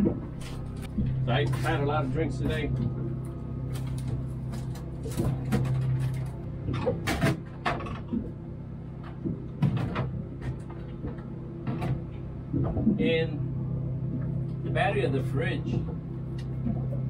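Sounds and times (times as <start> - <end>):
fridge hum: 0.0 - 17.0.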